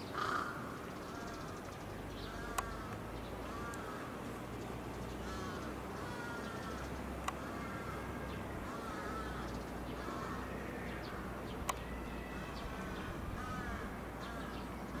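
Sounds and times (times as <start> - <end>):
crows cawing: 0.1 - 1.6, 2.2 - 4.2, 5.2 - 15.0.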